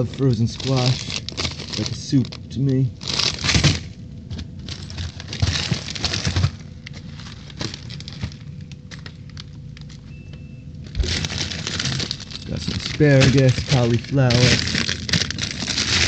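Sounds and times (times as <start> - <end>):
faint steady hum: 0.0 - 16.0
plastic bags crinkling: 0.0 - 16.0.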